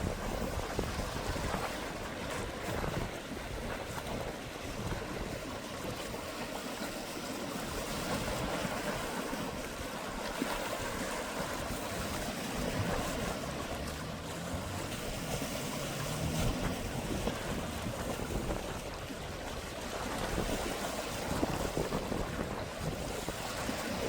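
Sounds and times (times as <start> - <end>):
sea waves washing ashore: 0.0 - 24.0
wind on microphone: 0.0 - 24.0.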